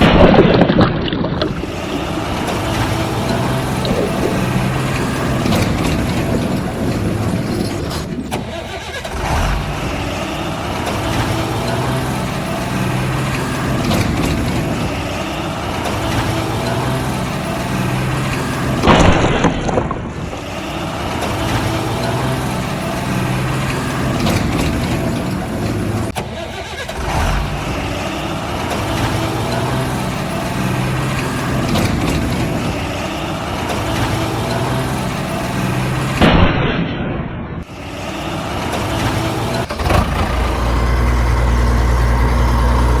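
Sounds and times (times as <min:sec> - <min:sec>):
heavy truck engine running: 0:00.0 - 0:36.6, 0:37.6 - 0:43.0.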